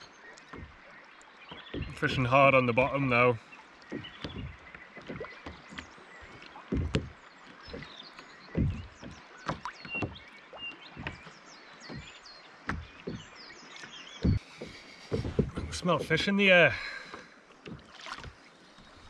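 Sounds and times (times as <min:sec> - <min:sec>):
light water noise: 0:00.0 - 0:19.0
waves slapping against kayak hull: 0:00.0 - 0:19.0.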